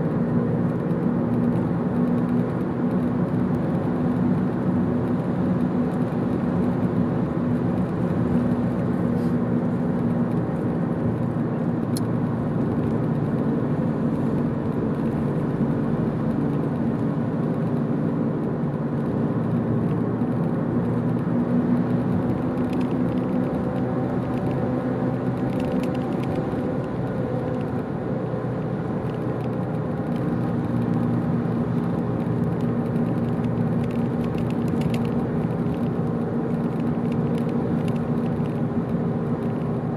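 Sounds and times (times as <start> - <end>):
car engine and tyre drone: 0.0 - 39.9.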